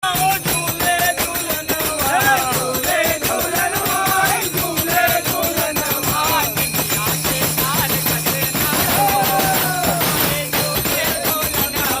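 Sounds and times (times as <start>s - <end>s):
jingling hand percussion: 0.0s - 12.0s
person singing: 0.1s - 12.0s.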